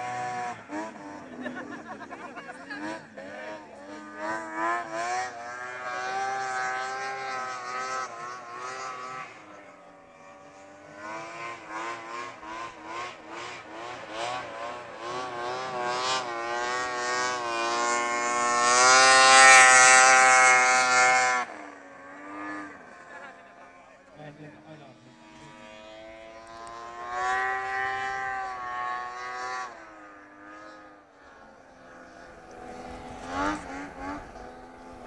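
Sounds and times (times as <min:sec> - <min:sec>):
snowmobile engines racing: 0:00.0 - 0:35.0.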